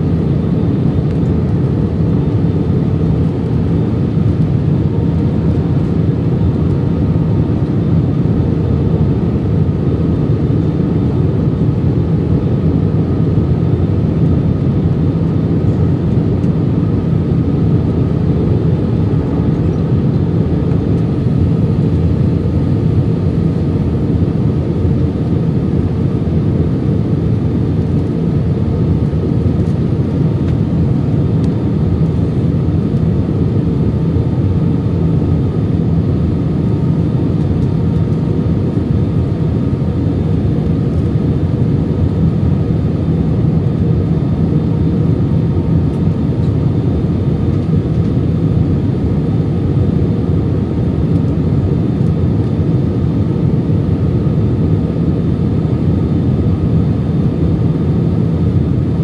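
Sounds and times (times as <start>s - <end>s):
aircraft cabin engine drone: 0.0s - 59.0s.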